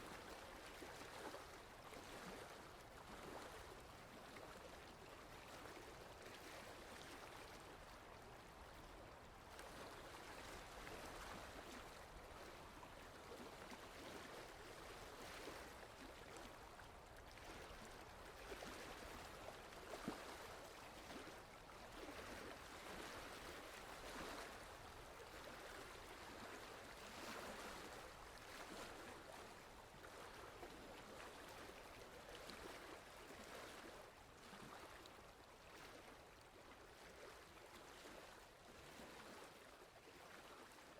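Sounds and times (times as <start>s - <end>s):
small waves lapping on shore: 0.0s - 40.9s.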